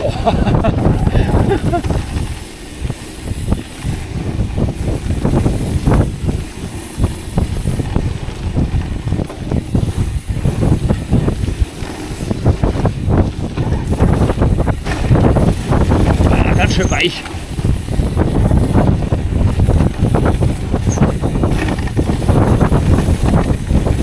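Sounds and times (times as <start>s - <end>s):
bike knocking and rattling: 0.0s - 24.0s
tyres rolling on dirt: 0.0s - 24.0s
wind rushing over microphone: 0.0s - 24.0s.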